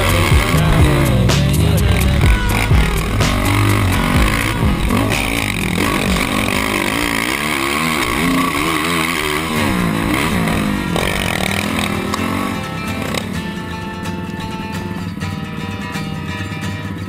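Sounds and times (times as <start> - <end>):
quad engine revving: 0.0 - 17.0.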